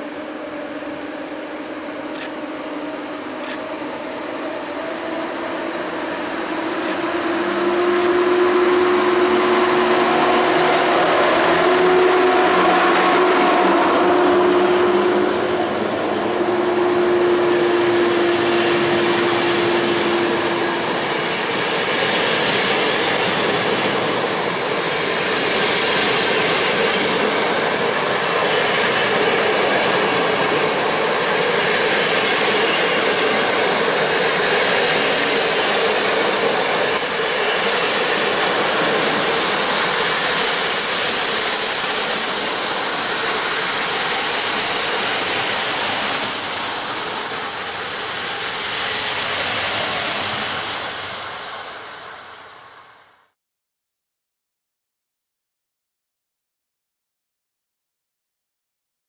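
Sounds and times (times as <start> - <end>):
electric locomotive tone: 0.0 - 53.0.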